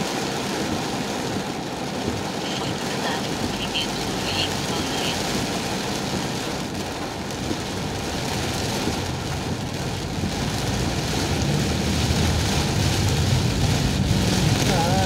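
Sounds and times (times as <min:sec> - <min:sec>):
heavy rain on a car roof: 0:00.0 - 0:15.0.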